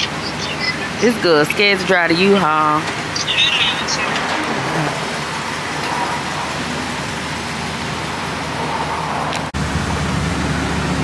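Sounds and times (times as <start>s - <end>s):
road traffic noise: 0.0s - 11.0s
truck engine drone from inside cab: 0.0s - 11.0s.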